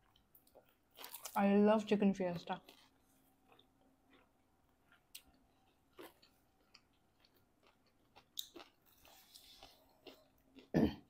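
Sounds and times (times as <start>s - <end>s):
soft chewing: 0.0s - 1.4s, 2.3s - 10.7s.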